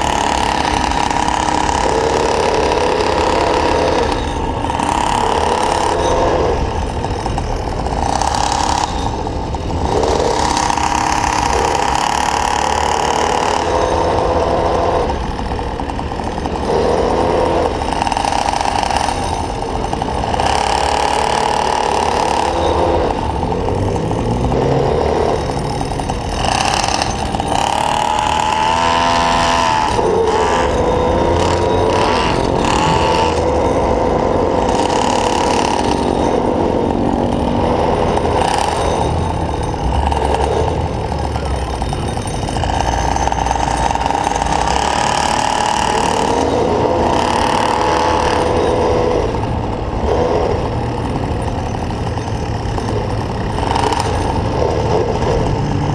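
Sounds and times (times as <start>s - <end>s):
motor scooter engine revving: 0.0s - 55.9s.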